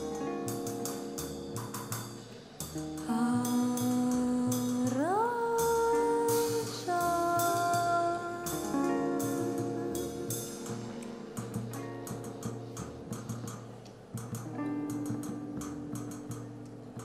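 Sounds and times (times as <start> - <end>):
drums and cymbals: 0.0 - 17.0
sliding melodic instrument notes: 0.0 - 17.0.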